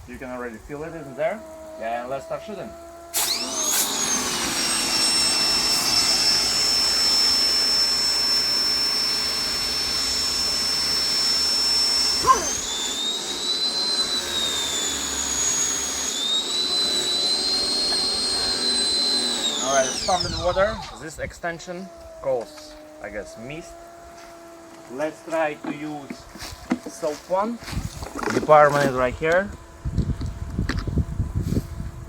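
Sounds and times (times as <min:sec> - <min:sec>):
pressure washer whine and spray: 0:00.0 - 0:32.0.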